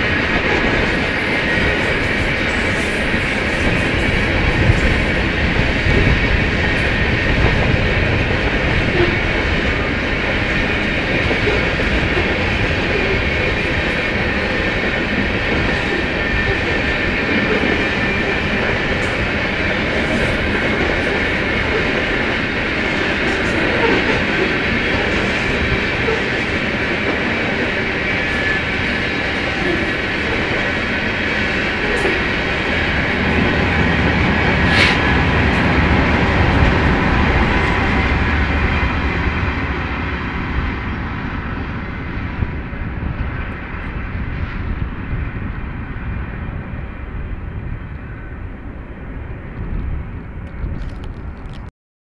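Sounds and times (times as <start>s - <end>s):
freight train wheels rolling on rails: 0.0s - 51.7s.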